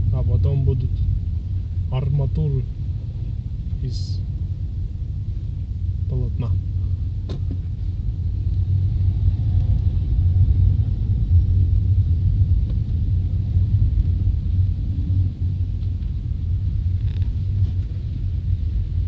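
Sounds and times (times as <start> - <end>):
car interior driving rumble: 0.0 - 19.0.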